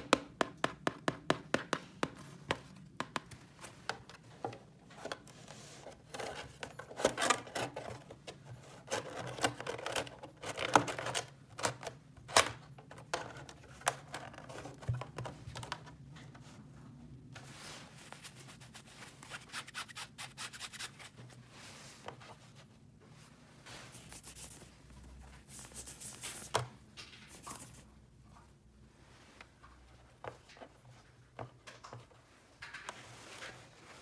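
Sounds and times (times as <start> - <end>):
rustling and scraping: 2.2 - 11.8, 12.8 - 34.0.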